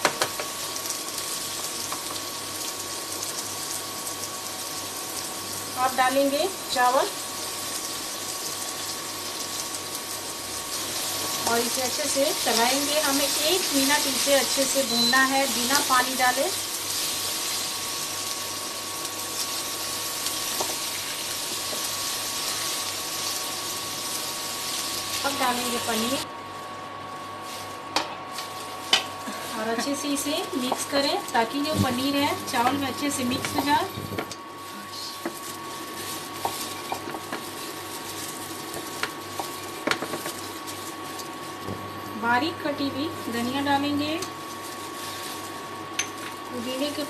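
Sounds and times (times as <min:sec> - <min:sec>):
food sizzling in a pan: 0:00.0 - 0:26.3, 0:27.3 - 0:47.0.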